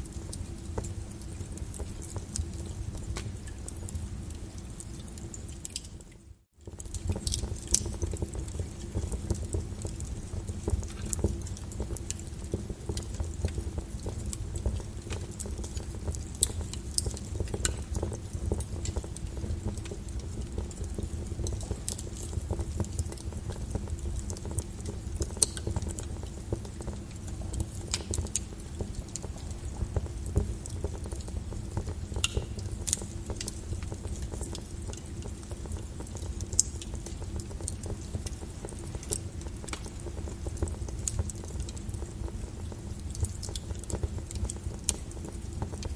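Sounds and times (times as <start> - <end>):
rain pattering: 0.0 - 45.9
wood fire crackling: 0.0 - 45.9.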